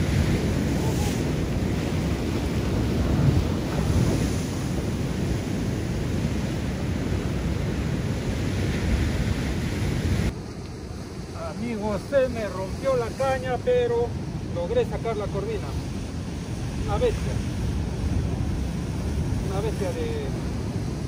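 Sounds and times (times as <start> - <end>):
surf breaking on rocks: 0.0 - 21.0
wind buffeting microphone: 0.0 - 21.0.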